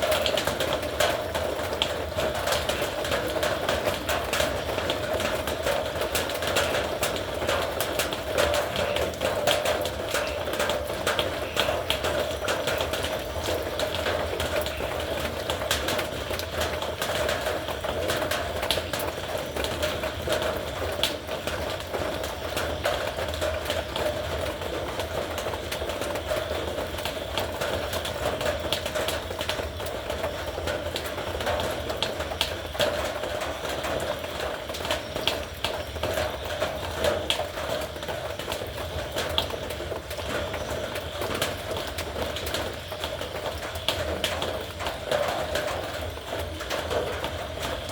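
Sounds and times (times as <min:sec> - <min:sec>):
heavy rain on a metal roof: 0:00.0 - 0:47.9.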